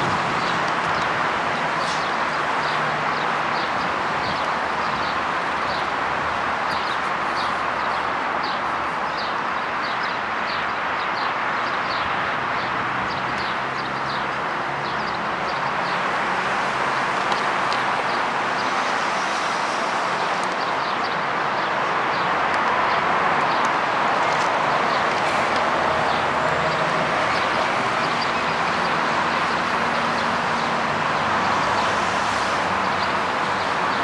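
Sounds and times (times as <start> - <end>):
rushing background noise: 0.0 - 34.0.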